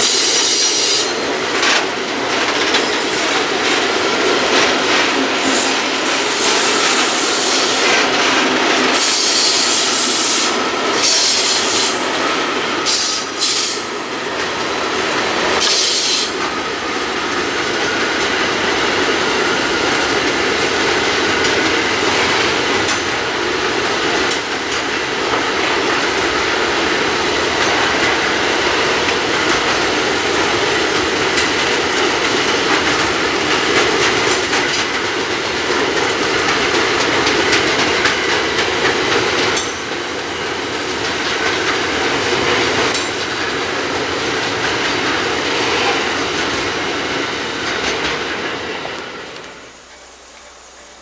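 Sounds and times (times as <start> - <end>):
freight train rumbling past: 0.0 - 51.0
wheels clicking over rail joints: 0.1 - 51.0.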